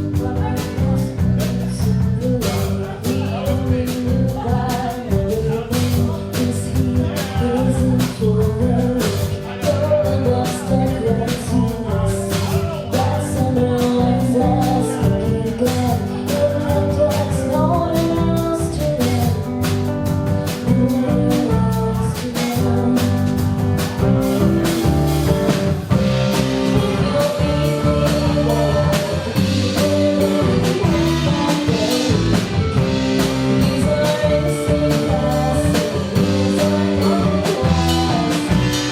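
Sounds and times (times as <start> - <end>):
drum kit beat: 0.0 - 38.9
guitar: 0.0 - 38.9
person singing: 0.0 - 38.9.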